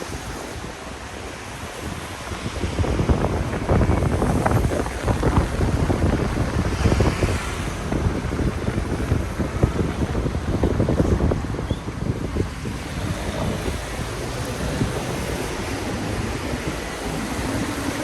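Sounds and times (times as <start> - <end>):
car tyres hissing on wet road: 0.0 - 18.0
wind buffeting microphone: 0.0 - 18.0.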